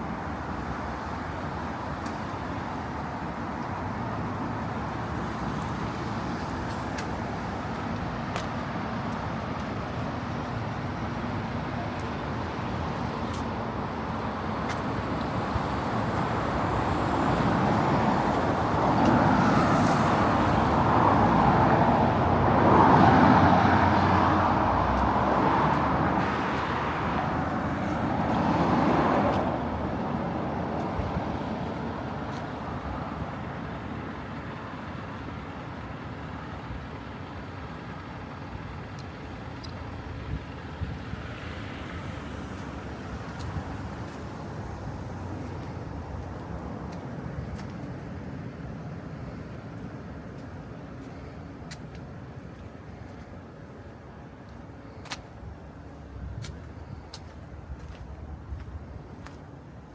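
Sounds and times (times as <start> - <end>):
passing cars hum: 0.0 - 59.9.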